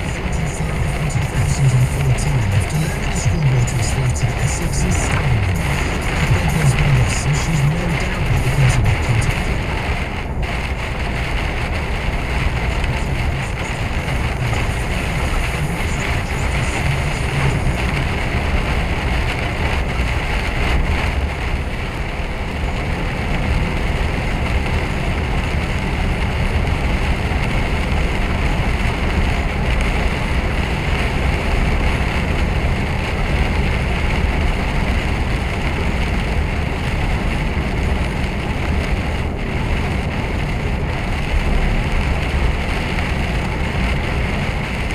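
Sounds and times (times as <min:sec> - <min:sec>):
lorry driving drone in cab: 0:00.0 - 0:44.9.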